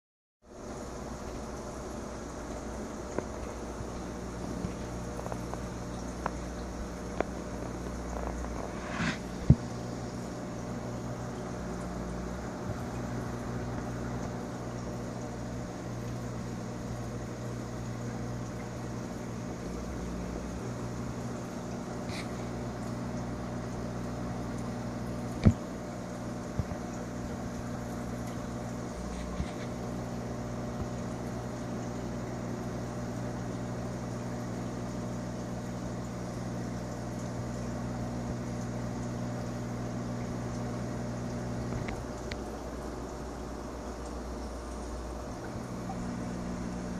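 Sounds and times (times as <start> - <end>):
aquarium pump humming: 0.5 - 46.9.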